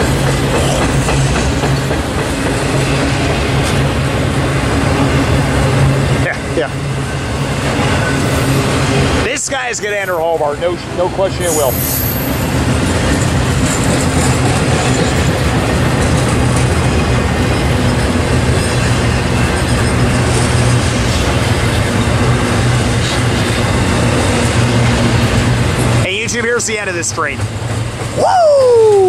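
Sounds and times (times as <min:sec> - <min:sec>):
freight train cars rolling past: 0:00.0 - 0:29.0.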